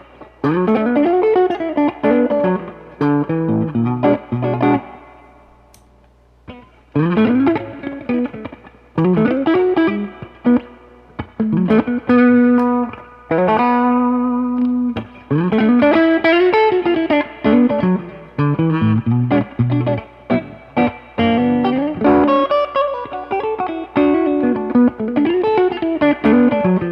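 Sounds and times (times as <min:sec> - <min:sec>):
electric guitar lead line: 0:00.0 - 0:05.4, 0:06.5 - 0:26.9.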